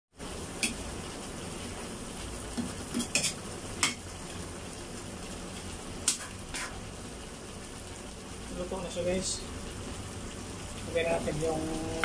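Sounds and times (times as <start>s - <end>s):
low sizzle from pan: 0.1s - 12.0s.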